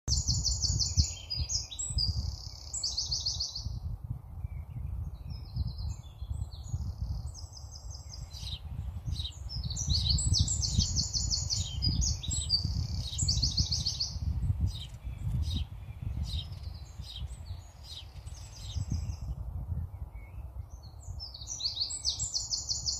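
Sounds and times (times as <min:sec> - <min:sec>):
songbirds singing: 0:00.1 - 0:22.9.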